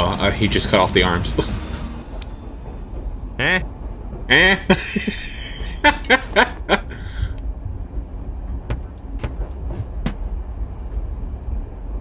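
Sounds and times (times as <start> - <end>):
train interior rumble: 0.0 - 12.0.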